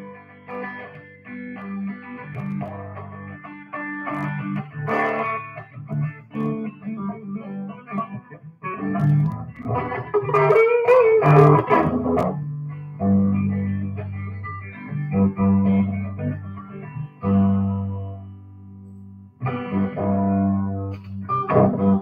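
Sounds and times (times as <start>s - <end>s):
electric guitar: 0.0s - 22.0s.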